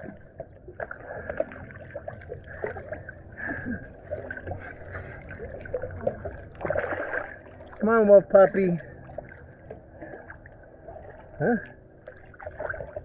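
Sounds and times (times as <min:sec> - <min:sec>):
pool water sloshing: 0:00.0 - 0:13.0
small splashes and drips: 0:00.0 - 0:13.0.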